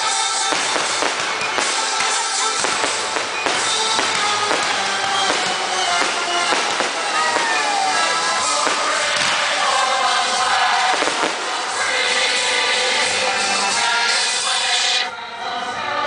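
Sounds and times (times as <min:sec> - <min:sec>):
fireworks bangs: 0:00.0 - 0:13.1
music playing: 0:00.0 - 0:16.0.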